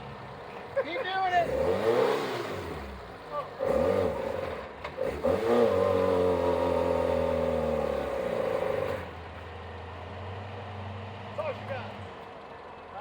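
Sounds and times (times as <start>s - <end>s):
off-road vehicle engine revving: 0.0s - 12.3s.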